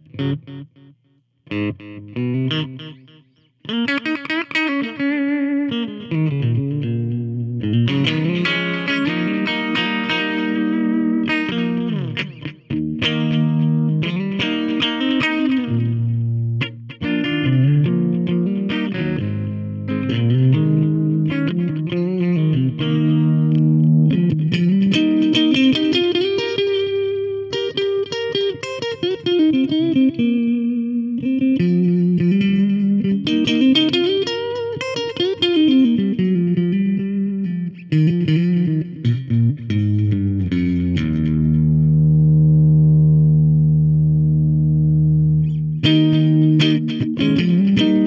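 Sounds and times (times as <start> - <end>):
electric guitar melodic lines: 0.0 - 48.0.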